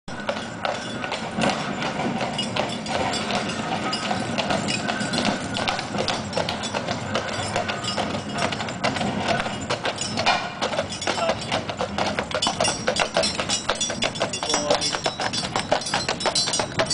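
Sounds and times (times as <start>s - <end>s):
horse hooves clip-clopping on pavement: 0.1s - 16.9s.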